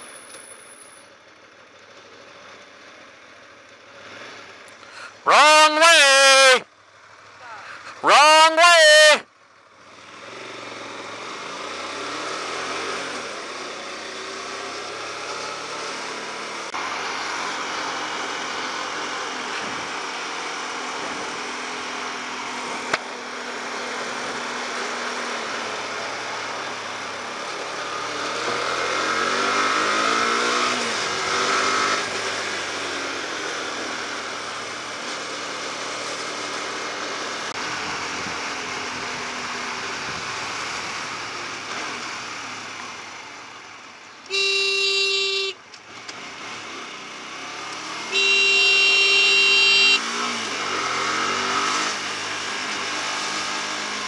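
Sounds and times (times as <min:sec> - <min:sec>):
motorcycle engine revving: 0:09.8 - 0:43.7, 0:44.3 - 0:54.0.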